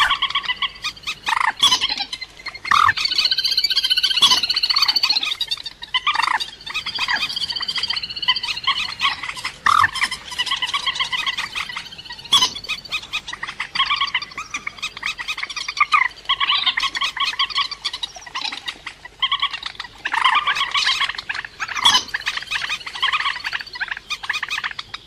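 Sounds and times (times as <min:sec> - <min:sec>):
rail bird clucking calls: 0:00.0 - 0:25.0.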